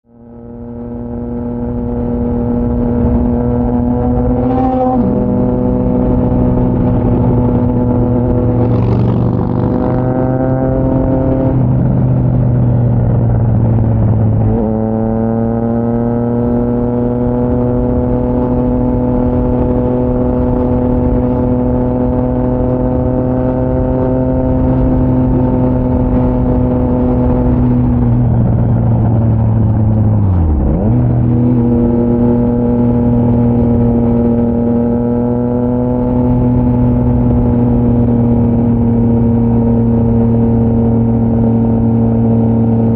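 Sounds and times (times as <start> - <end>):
motorcycle engine revving on road: 0.0 - 42.9.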